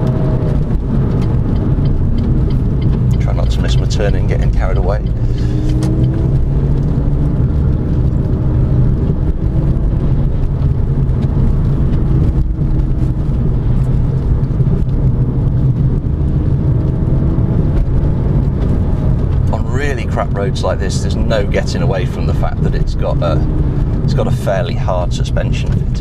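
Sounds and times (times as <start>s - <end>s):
car engine running: 0.0s - 26.0s
low road rumble: 0.0s - 26.0s.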